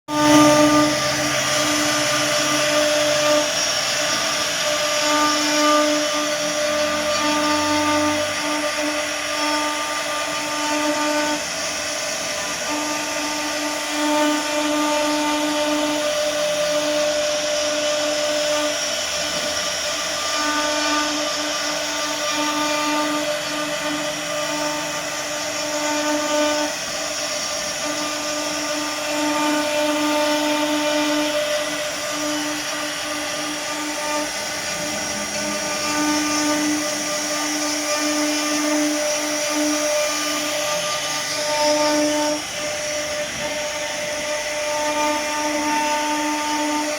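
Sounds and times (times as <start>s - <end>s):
router spindle whining: 0.1s - 46.9s.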